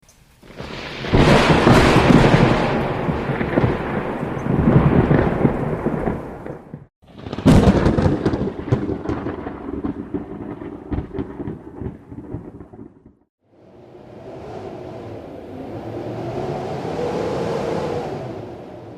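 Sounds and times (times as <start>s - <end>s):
thunder rumbling: 0.4s - 18.9s.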